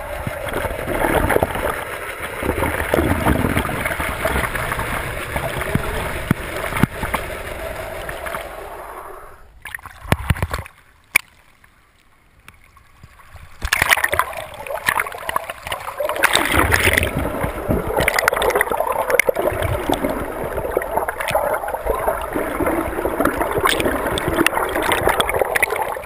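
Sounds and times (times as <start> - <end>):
water bubbling: 0.0 - 10.6, 13.6 - 26.0
water rushing past camera: 0.0 - 10.7, 13.2 - 26.0.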